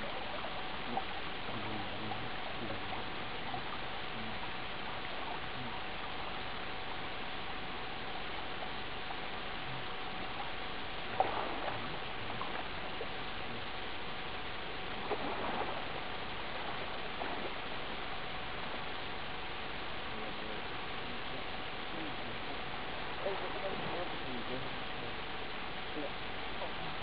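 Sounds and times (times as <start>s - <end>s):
constant hum: 0.0s - 27.0s
steady hiss: 0.0s - 27.0s.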